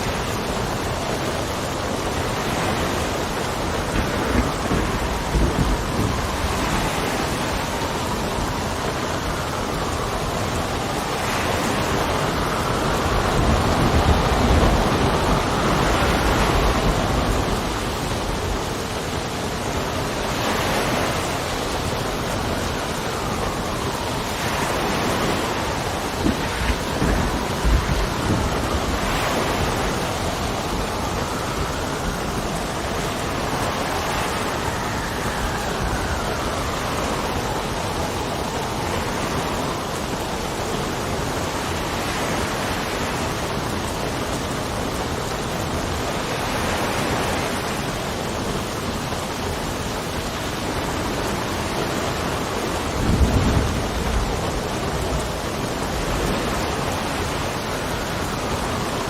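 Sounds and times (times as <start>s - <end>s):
steady rain: 0.0s - 59.0s
wind whistling: 0.0s - 59.0s.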